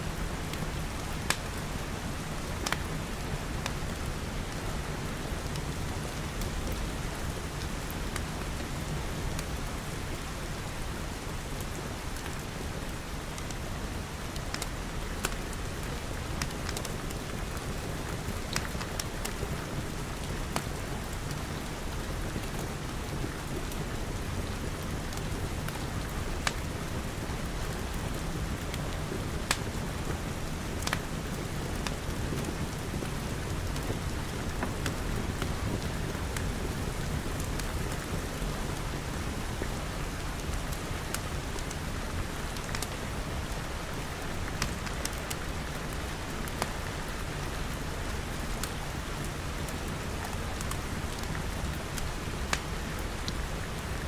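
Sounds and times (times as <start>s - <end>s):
rain pattering on glass: 10.7s - 54.0s.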